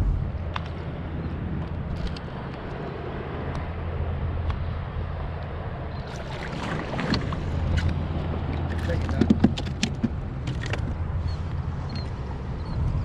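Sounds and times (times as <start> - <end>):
water around a kayak: 0.0 - 13.0
wind: 0.0 - 13.0.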